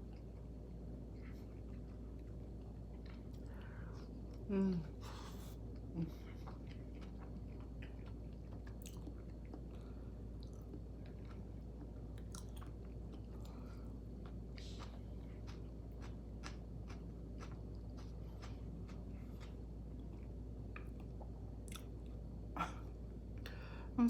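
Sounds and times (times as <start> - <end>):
person chewing food: 0.0 - 23.6
steady low hum: 0.0 - 24.0.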